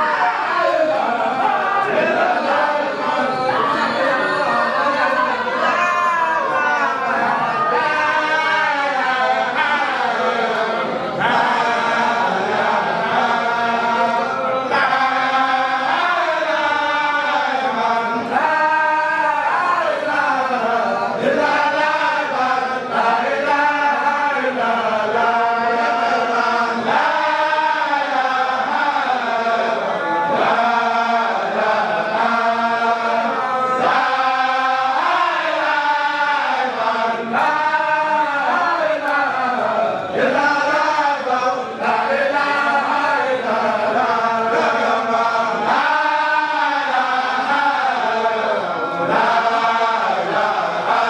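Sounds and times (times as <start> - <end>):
voices chanting devotional verses: 0.0 - 51.0.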